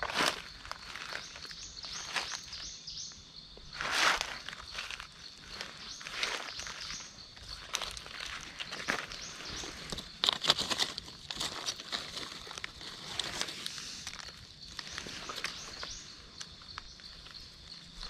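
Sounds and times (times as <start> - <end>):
dry leaves and twigs crunching: 0.0 - 18.0.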